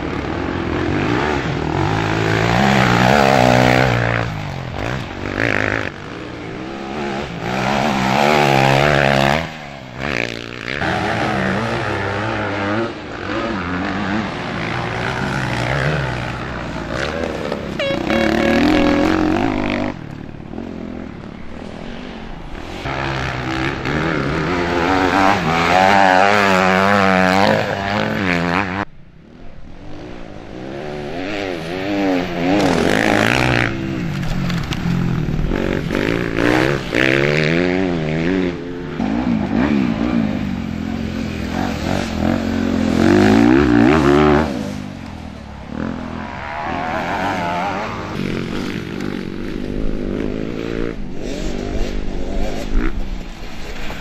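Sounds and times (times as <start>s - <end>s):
motocross engines revving: 0.0s - 28.9s, 29.7s - 54.0s.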